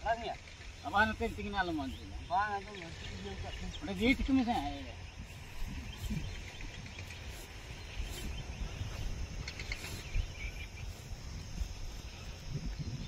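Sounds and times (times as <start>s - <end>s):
faint scattered chirping: 0.0s - 13.0s.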